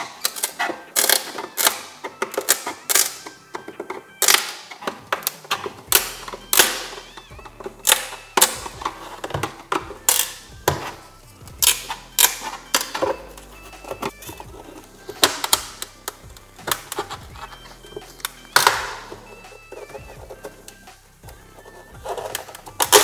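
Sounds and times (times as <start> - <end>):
plastic cracking and snapping: 0.0 - 21.4, 22.1 - 23.0.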